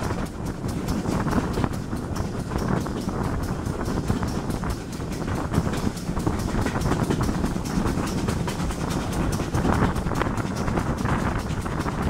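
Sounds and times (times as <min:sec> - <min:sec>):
steam locomotive running: 0:00.0 - 0:12.0
wind on microphone: 0:00.0 - 0:12.0.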